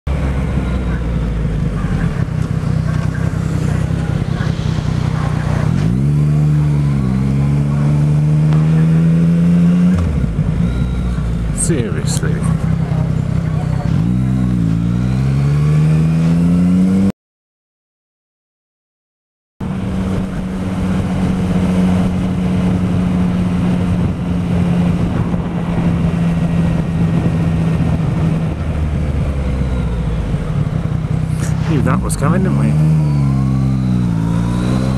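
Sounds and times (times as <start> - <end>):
motorcycle engine accelerating: 0.1 - 17.1, 19.6 - 34.9
road and wind noise: 0.1 - 17.1, 19.6 - 34.9.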